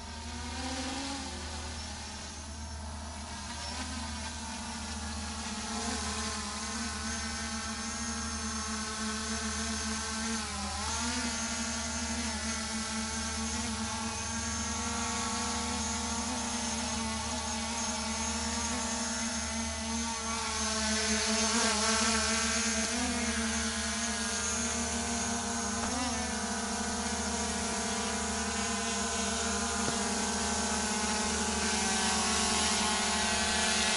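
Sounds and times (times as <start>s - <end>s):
drone propellers whining: 0.0s - 33.9s.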